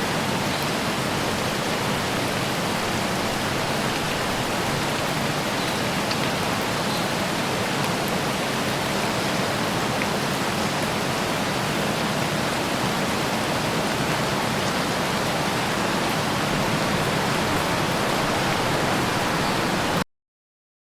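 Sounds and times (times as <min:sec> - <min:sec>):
light rain on leaves: 0:00.0 - 0:20.0.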